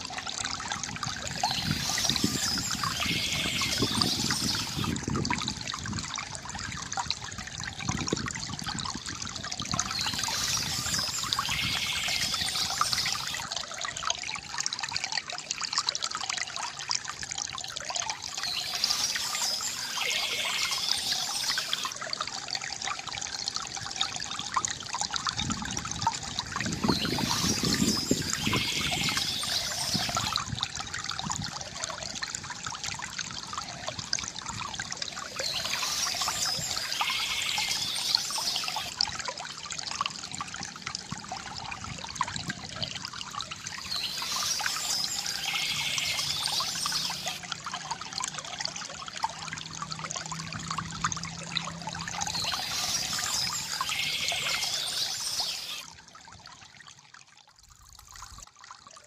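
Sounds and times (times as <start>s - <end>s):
stream trickling and gurgling: 0.0s - 59.0s.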